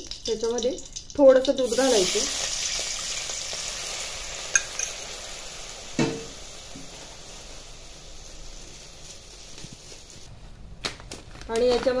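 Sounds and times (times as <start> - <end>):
milk sizzling in hot fat: 0.0 - 10.3.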